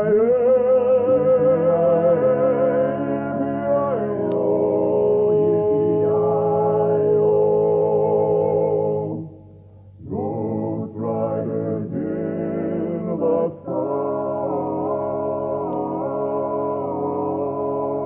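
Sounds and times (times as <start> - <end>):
men singing in close harmony: 0.0 - 9.3, 10.0 - 18.0.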